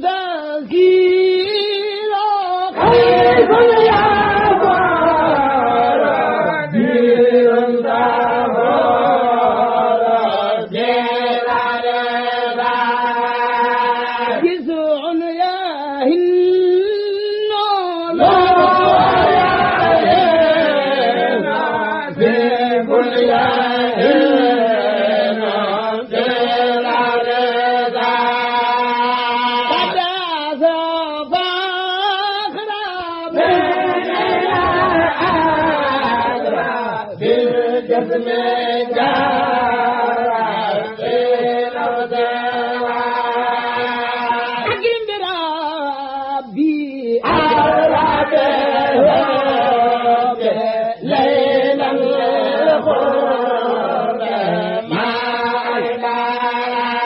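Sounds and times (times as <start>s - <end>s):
person chanting unaccompanied: 0.0s - 57.0s.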